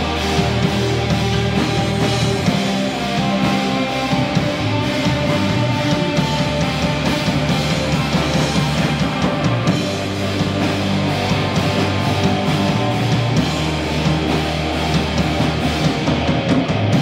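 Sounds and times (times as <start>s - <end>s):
electric bass guitar low notes: 0.0s - 17.0s
rock band playing live: 0.0s - 17.0s
steady drumming: 0.0s - 17.0s.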